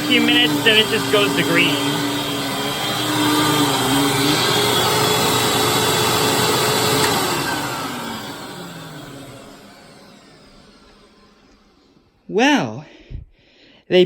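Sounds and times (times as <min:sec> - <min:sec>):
motor winding down: 0:00.0 - 0:12.2
vacuum cleaner running: 0:00.0 - 0:12.3.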